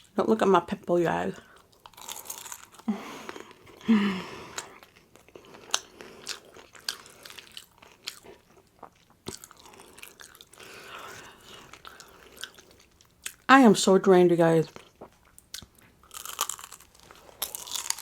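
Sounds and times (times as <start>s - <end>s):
person chewing crunchy food: 1.4s - 13.5s, 14.6s - 18.0s.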